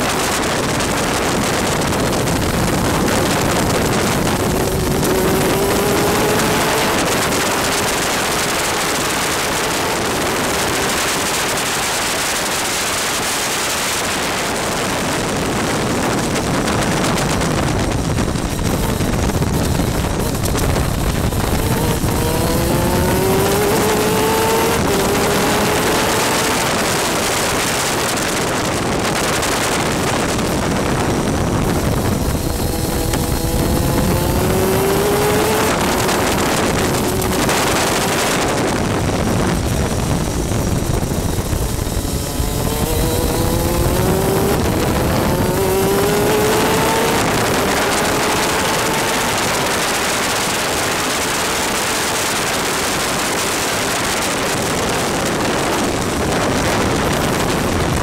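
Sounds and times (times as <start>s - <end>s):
kart engine accelerating: 0.0s - 58.0s
wind and spray noise on microphone: 0.0s - 58.0s.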